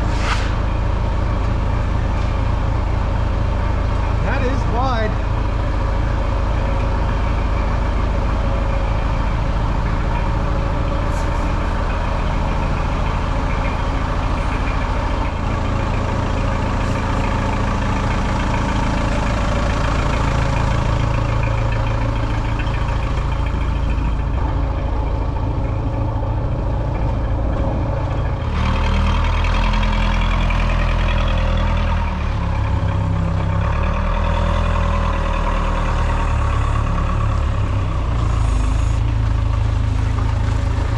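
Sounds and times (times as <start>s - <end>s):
large engine running: 0.0s - 40.9s.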